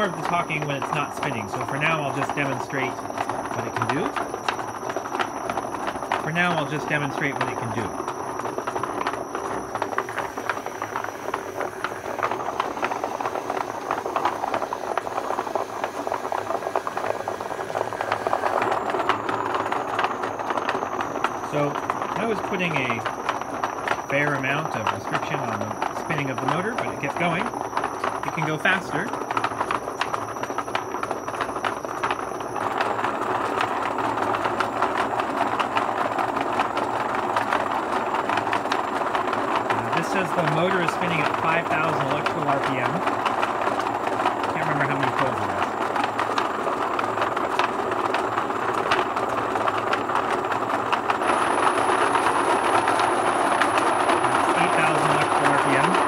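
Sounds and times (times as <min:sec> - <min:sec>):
motor whirring through gearbox: 0:00.0 - 0:56.0.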